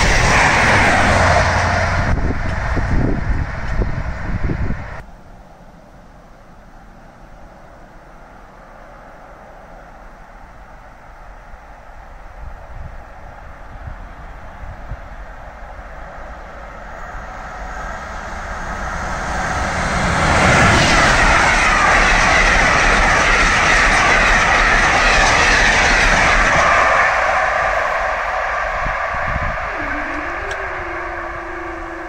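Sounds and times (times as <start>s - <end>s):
passenger train passing at speed: 0.0s - 32.0s.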